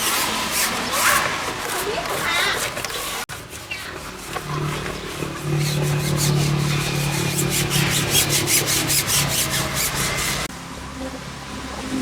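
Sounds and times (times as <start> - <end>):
brush scrubbing: 0.0 - 10.5.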